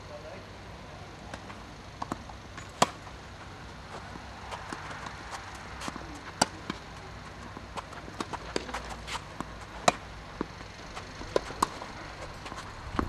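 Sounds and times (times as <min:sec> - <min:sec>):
rackets striking tennis ball: 0:01.2 - 0:13.0
tennis ball bouncing: 0:01.2 - 0:13.0.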